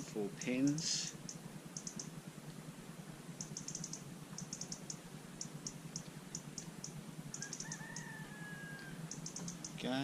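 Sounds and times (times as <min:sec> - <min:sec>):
steady low hum: 0:00.0 - 0:10.0
cricket chirping: 0:00.4 - 0:02.2, 0:03.4 - 0:09.9.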